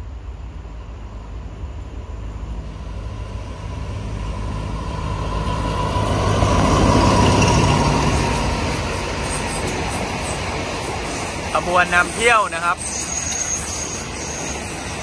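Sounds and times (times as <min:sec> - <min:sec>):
diesel locomotive engine: 0:00.0 - 0:15.0
train wheels on rails: 0:00.0 - 0:15.0.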